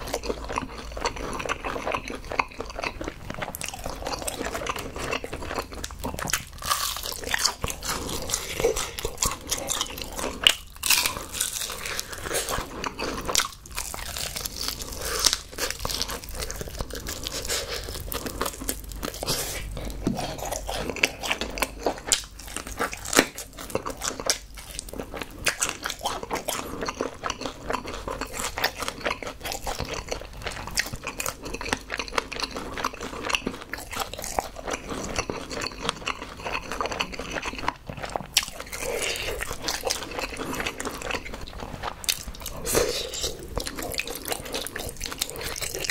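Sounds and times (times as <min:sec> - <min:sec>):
crunching fried chicken: 0:00.0 - 0:45.9.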